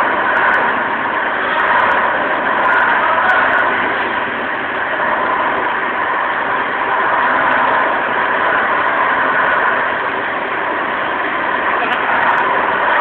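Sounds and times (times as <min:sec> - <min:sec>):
floor machine whirring: 0:00.0 - 0:13.0.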